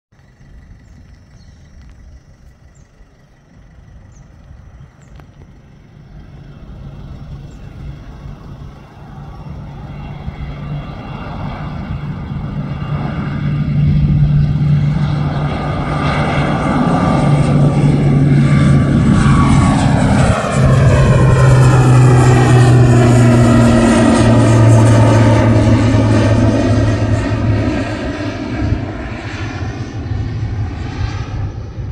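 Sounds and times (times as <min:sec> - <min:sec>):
turboprop aircraft taking off: 0:00.1 - 0:31.9.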